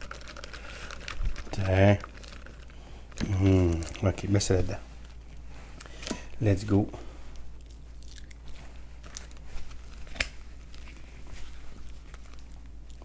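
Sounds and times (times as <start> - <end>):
plastic wrap crinkling: 0.0 - 5.8, 7.8 - 13.0.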